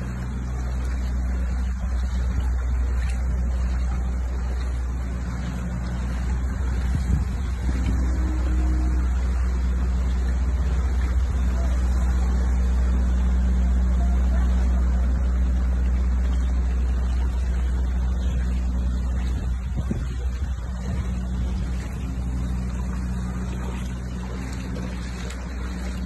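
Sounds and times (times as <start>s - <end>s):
engine rumbling steadily: 0.0s - 26.0s.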